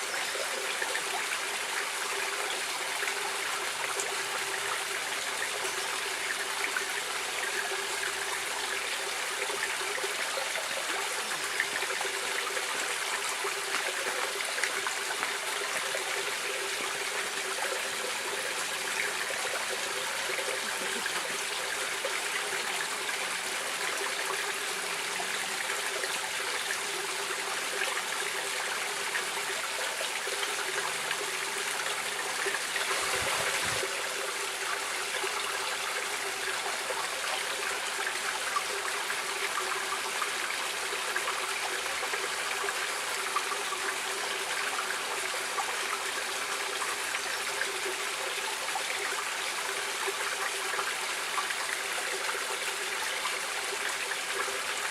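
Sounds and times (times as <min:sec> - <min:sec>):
stream water trickling over stones: 0:00.0 - 0:54.9.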